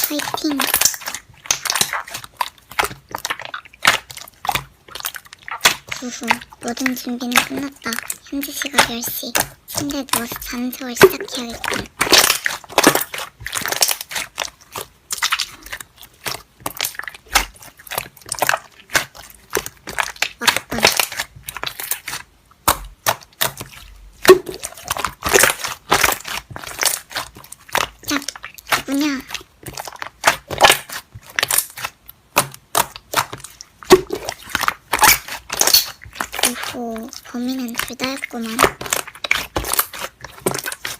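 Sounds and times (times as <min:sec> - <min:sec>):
slime crackling and squelching: 0:00.0 - 0:40.9.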